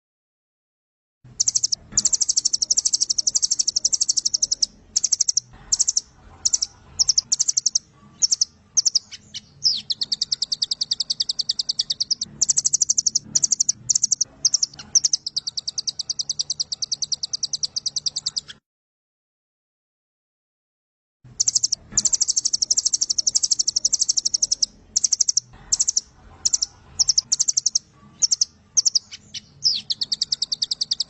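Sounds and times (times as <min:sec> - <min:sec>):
bird singing rapid trills: 0:01.3 - 0:18.6, 0:21.4 - 0:31.0.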